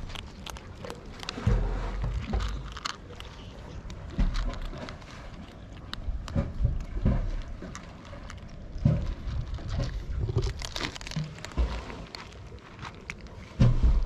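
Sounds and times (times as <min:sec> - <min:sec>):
cats crunching dry kibble: 0:00.0 - 0:14.0.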